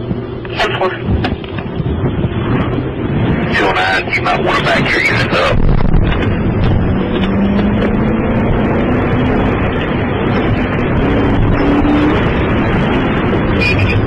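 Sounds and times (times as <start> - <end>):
roar of large fire burning: 0.0 - 14.0.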